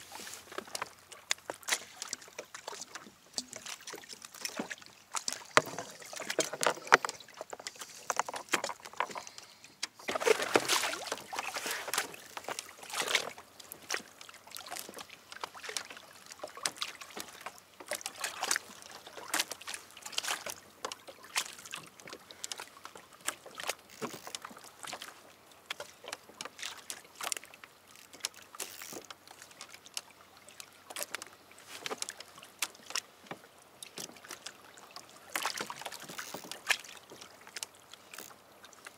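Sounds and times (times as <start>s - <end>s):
small splashes and knocks: 0.0s - 38.9s
water lapping against kayak hull: 0.0s - 38.9s.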